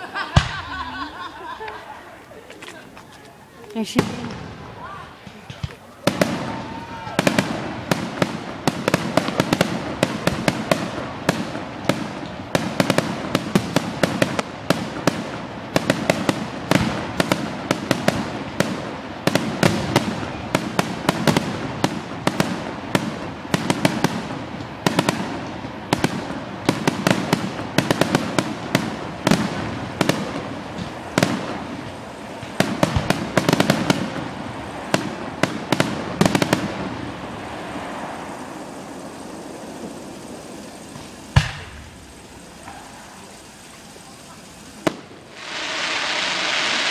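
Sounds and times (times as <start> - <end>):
fireworks bangs and crackles: 0.0 - 46.9.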